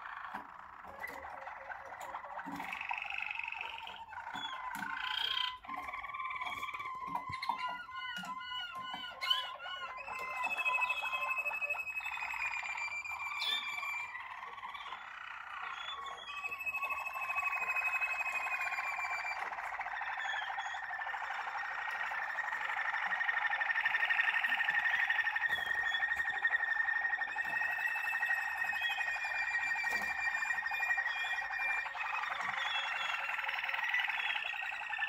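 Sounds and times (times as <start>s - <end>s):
canaries singing trills: 0.0s - 35.0s.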